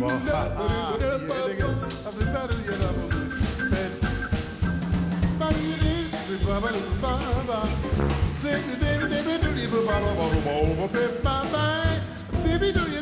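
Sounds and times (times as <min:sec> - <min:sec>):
jazz band playing swing: 0:00.0 - 0:13.0
saxophone melody: 0:00.0 - 0:13.0.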